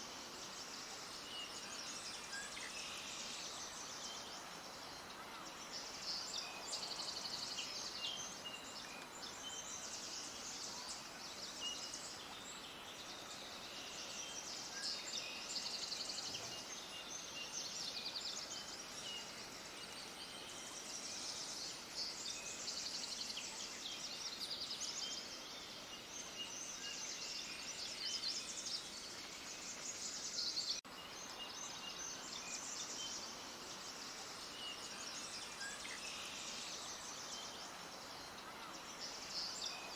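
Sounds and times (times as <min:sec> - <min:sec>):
faint hiss: 0:00.0 - 0:39.9
small birds chirping: 0:00.0 - 0:39.9.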